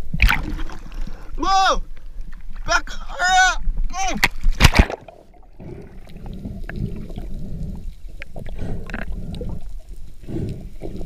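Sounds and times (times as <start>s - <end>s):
muffled underwater water rush: 0.0s - 2.7s, 3.6s - 11.0s.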